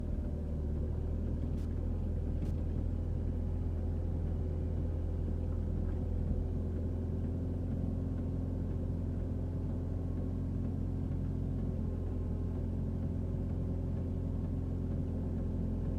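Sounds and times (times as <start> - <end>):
diesel engine droning: 0.0 - 15.9.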